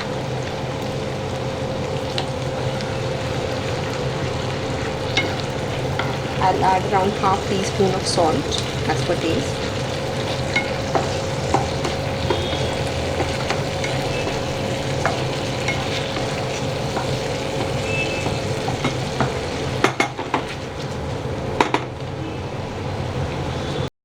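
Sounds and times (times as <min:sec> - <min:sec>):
vegetables sizzling in a pan: 0:00.0 - 0:23.9.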